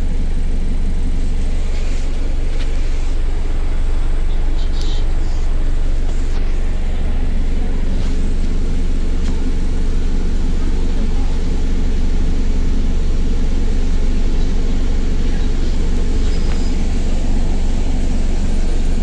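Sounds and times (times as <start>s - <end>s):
bus diesel engine idling: 0.0s - 19.0s.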